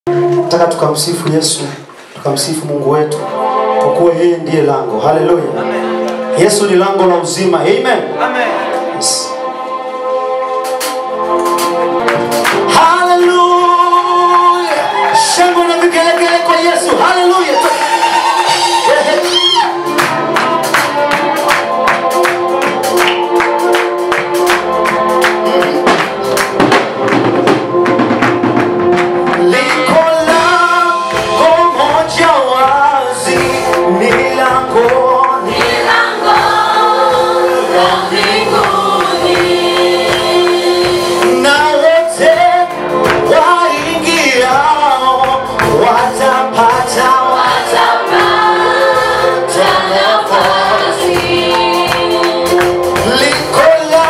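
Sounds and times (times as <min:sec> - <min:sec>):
band with percussion: 0:00.1 - 0:54.0
group singing gospel song: 0:08.4 - 0:26.9, 0:29.2 - 0:54.0.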